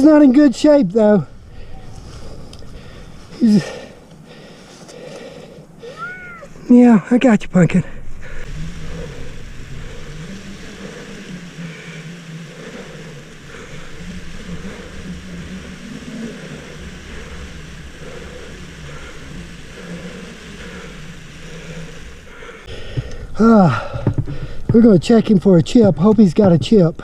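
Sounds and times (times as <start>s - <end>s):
engine drone: 0.0s - 6.7s, 7.7s - 27.0s
background hiss: 0.0s - 27.0s.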